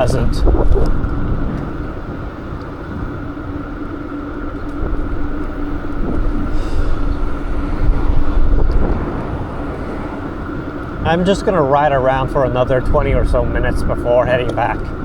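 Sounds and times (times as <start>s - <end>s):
traffic rumble: 0.0s - 15.0s
wind: 0.0s - 15.0s.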